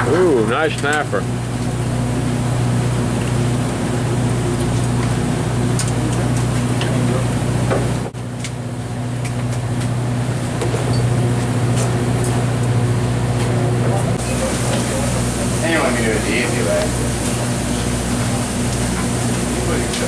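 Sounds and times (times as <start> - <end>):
boat machinery humming: 0.0 - 20.0.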